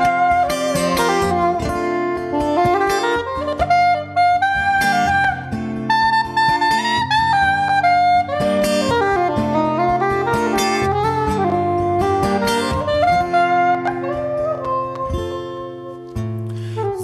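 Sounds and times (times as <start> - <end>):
acoustic guitar accompaniment: 0.0 - 17.0
soprano saxophone melody: 0.0 - 17.0.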